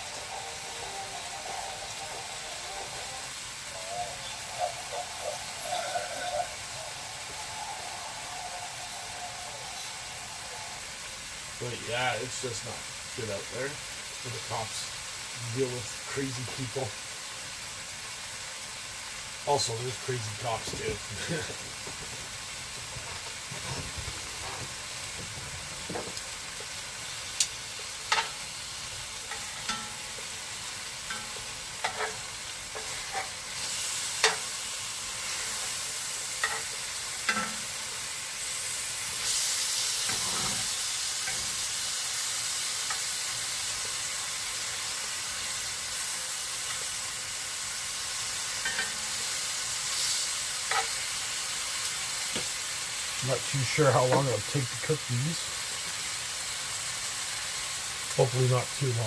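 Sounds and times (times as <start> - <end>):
kebabs sizzling with pops: 0.0 - 59.0.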